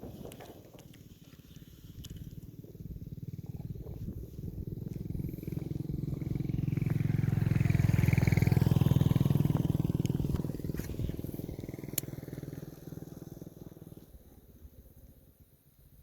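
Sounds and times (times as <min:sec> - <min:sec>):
motorcycle engine passing by: 0:00.0 - 0:15.6.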